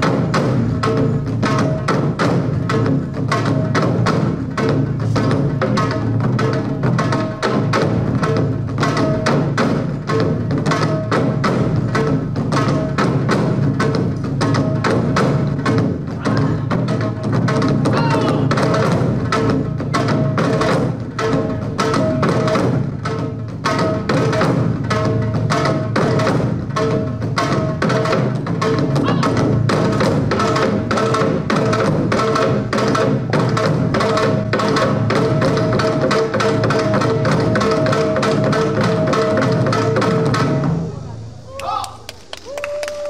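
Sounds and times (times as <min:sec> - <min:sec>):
percussion ensemble drumming: 0:00.0 - 0:43.0.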